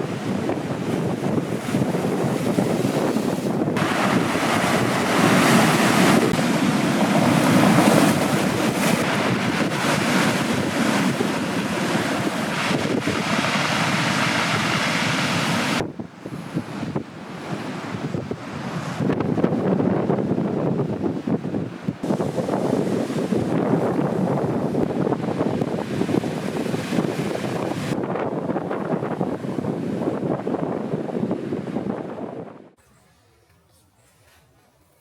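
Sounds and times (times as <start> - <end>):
ocean surf breaking: 0.0 - 32.8
wind buffeting microphone: 0.0 - 32.8.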